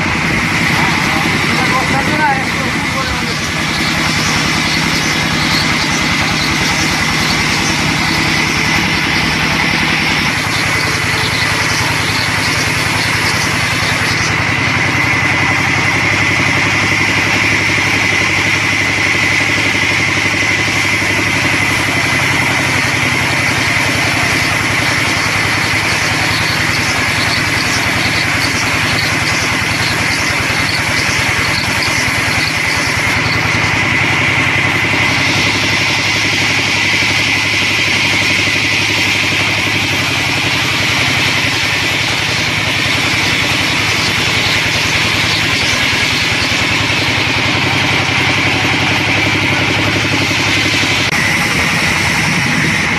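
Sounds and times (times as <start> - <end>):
band saw whining through log: 0.0 - 52.9
saw drive humming: 0.0 - 52.9.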